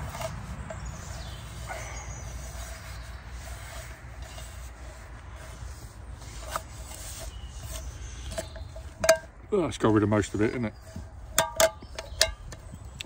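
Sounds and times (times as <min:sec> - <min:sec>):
scrubbing pan with moss: 0:00.0 - 0:12.6.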